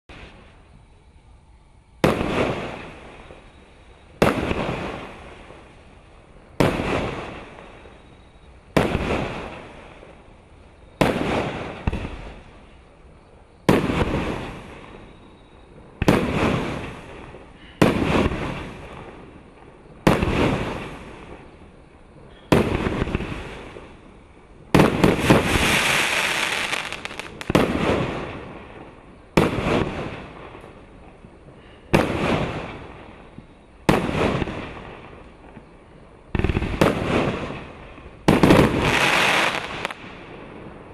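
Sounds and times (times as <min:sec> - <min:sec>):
fireworks bangs: 0:02.0 - 0:05.8, 0:06.5 - 0:12.8, 0:13.6 - 0:40.9.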